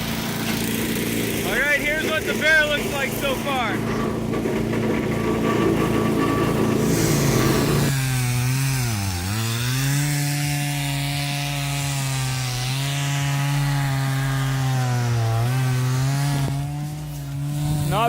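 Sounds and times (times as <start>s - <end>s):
chainsaw carving wood: 0.0s - 18.0s.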